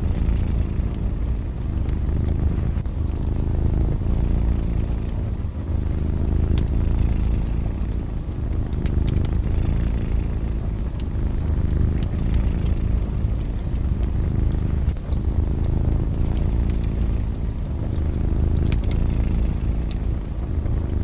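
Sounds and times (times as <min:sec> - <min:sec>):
cat purring: 0:00.0 - 0:21.0
wood fire crackling: 0:00.0 - 0:21.0.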